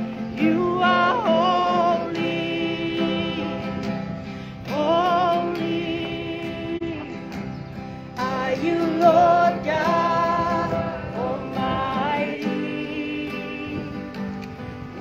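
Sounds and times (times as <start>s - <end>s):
acoustic guitar strumming: 0.0s - 15.0s
woman singing: 0.3s - 7.5s, 8.2s - 14.2s.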